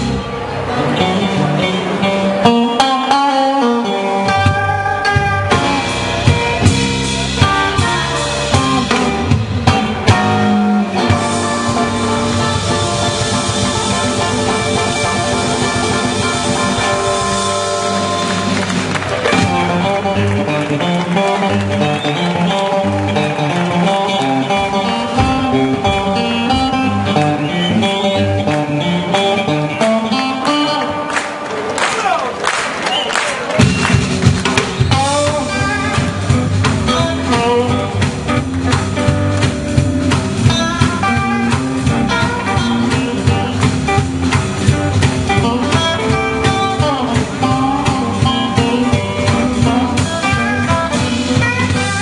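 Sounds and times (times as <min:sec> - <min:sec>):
bass guitar: 0:00.0 - 0:31.9, 0:32.9 - 0:52.0
blues-rock band playing: 0:00.0 - 0:52.0
drum kit: 0:00.0 - 0:52.0
electric guitar: 0:00.0 - 0:52.0.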